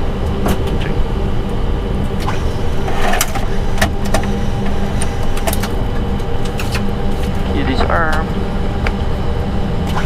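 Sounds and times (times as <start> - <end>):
low rumble and hum: 0.0 - 10.0.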